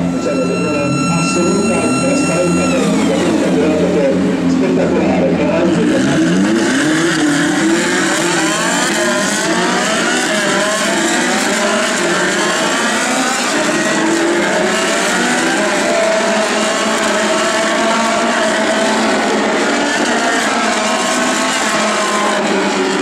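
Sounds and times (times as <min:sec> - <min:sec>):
race cars accelerating past: 0:00.0 - 0:23.0.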